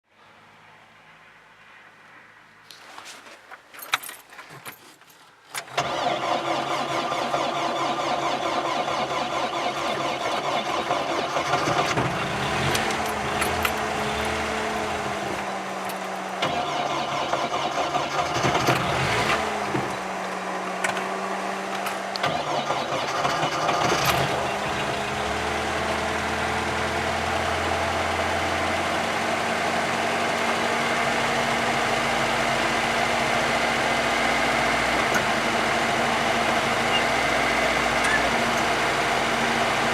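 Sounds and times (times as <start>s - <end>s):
car engine idling unevenly: 5.7s - 39.9s.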